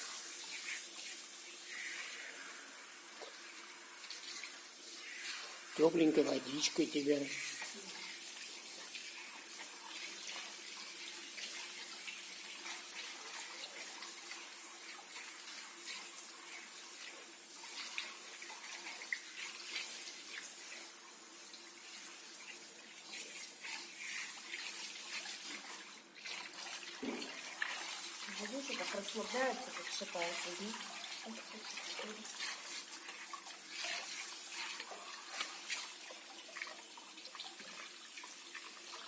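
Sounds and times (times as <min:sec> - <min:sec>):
shower water splashing on dog: 0:00.0 - 0:39.0.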